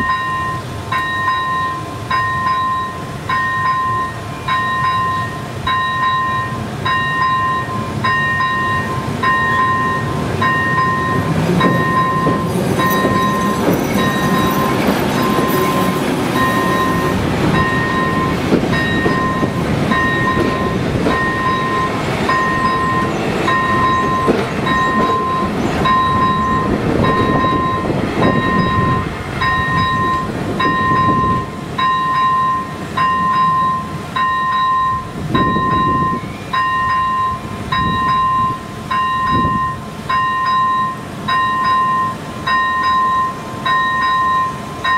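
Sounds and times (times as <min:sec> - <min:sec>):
level crossing bell beeping: 0:00.0 - 0:44.9
train wheels rumbling and clattering: 0:00.0 - 0:44.9.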